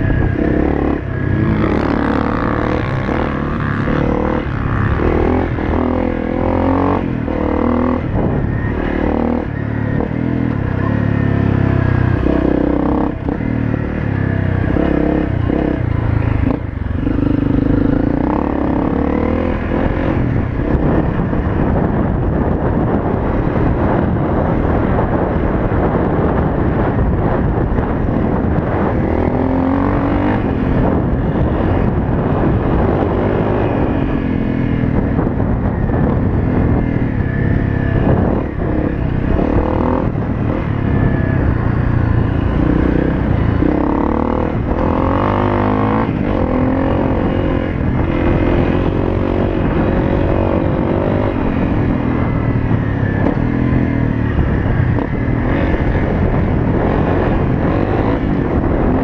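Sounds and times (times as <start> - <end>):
motorcycle engine revving: 0.0 - 59.0
wind rushing over camera: 0.0 - 59.0.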